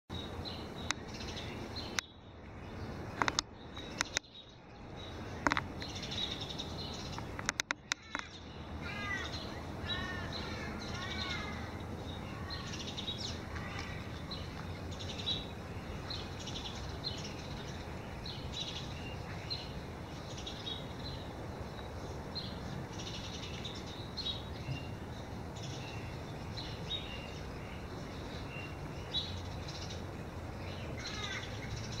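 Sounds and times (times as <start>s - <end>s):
birds chirping: 0.1s - 32.0s.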